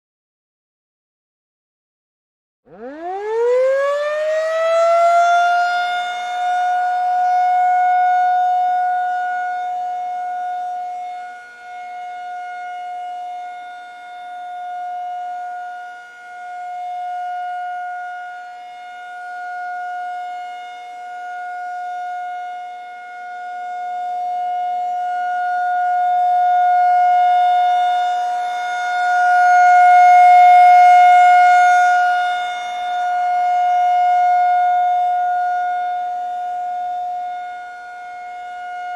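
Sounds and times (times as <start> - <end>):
tornado siren wailing: 2.7 - 38.9.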